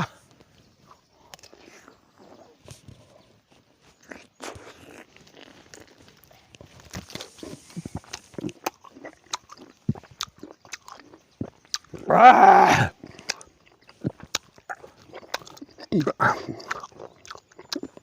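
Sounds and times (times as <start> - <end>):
mouth chewing and smacking: 0.0 - 18.0.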